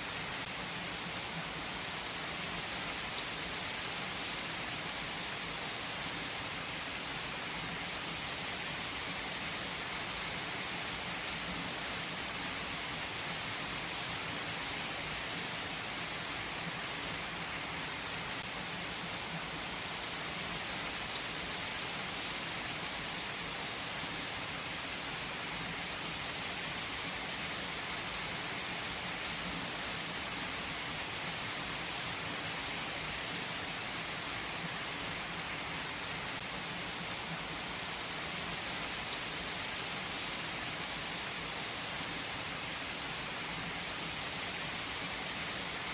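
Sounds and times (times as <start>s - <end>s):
heavy rain on foliage: 0.0s - 45.9s.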